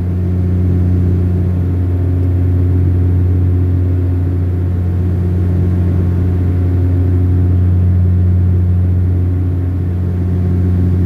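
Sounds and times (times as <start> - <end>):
airplane engine drone in cabin: 0.0 - 11.0.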